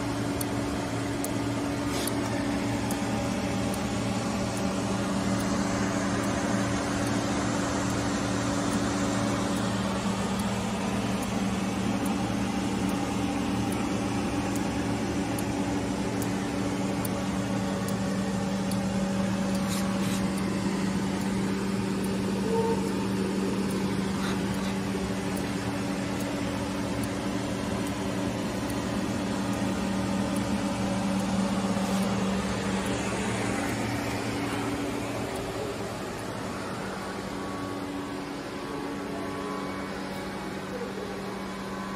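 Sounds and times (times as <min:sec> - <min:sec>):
electrical hum: 0:00.0 - 0:41.9
rushing fan noise: 0:00.0 - 0:41.9.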